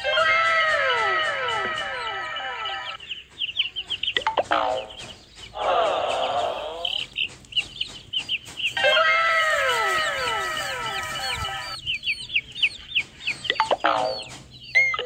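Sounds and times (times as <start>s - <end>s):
chickens clucking: 0.0s - 15.0s
chicks peeping: 0.0s - 15.0s.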